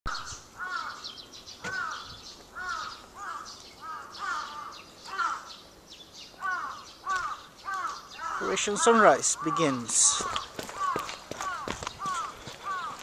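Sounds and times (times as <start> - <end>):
crows cawing: 0.1 - 5.7, 6.3 - 13.0.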